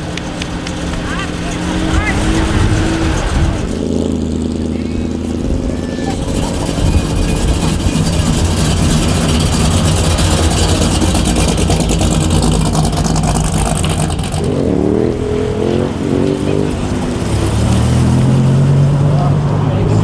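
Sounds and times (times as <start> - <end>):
car engines rumbling: 0.0 - 20.0
engine revving: 0.0 - 20.0.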